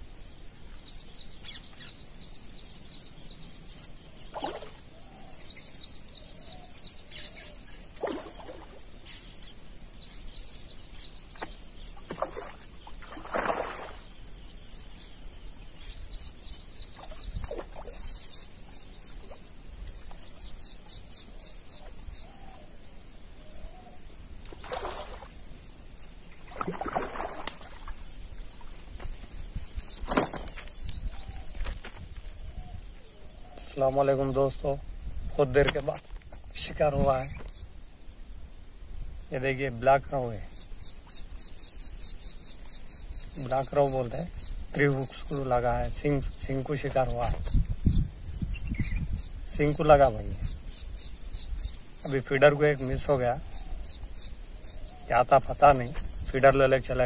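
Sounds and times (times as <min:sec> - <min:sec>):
birds chirping and calling: 0:00.0 - 0:57.0
high insect drone: 0:00.0 - 0:57.0.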